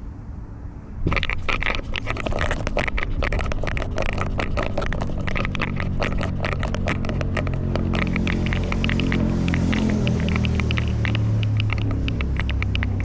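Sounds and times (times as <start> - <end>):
collar camera scraping and crackling: 1.0 - 13.0.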